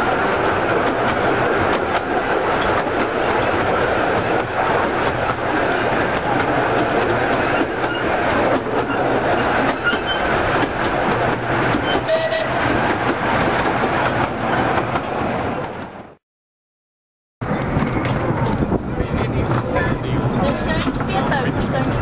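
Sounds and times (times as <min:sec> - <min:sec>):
train wheels rattling on track: 0:00.0 - 0:16.0, 0:17.4 - 0:22.0.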